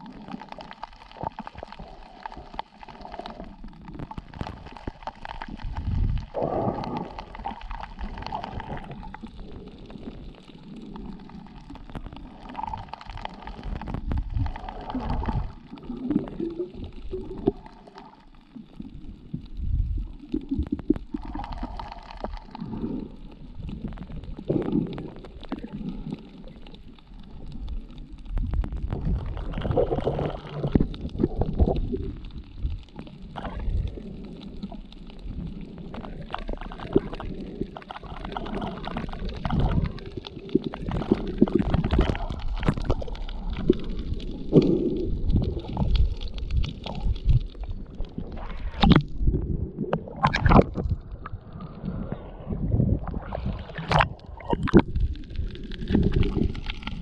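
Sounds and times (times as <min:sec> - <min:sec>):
muffled underwater rumbles: 0:00.0 - 0:57.0
water gurgling: 0:00.0 - 0:57.0.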